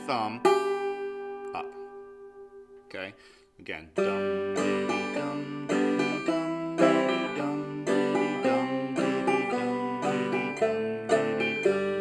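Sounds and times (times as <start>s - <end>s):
banjo played clawhammer style: 0.0s - 2.5s, 3.9s - 12.0s.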